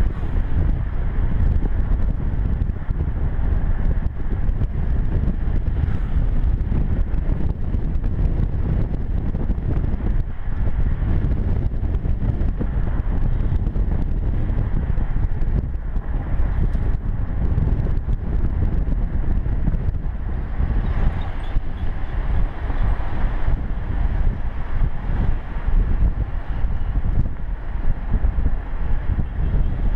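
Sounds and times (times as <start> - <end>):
car road noise: 0.0 - 29.9
wind buffeting microphone: 0.0 - 29.9.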